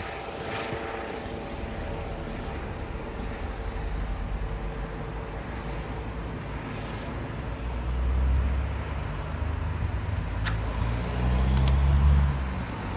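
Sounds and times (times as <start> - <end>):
distant helicopter rumble: 0.0 - 12.9.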